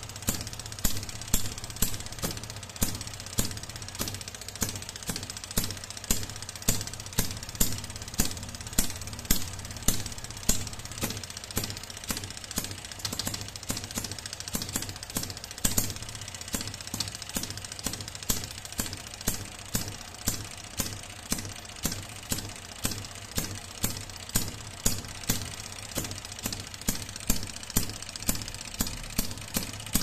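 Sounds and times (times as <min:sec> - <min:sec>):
model engine popping: 0:00.0 - 0:30.0.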